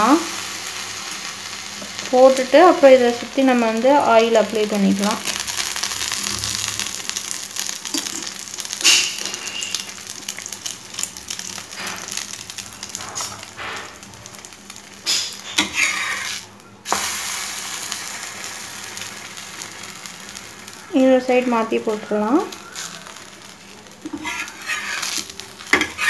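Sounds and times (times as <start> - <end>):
bread frying in oil: 0.0 - 26.0.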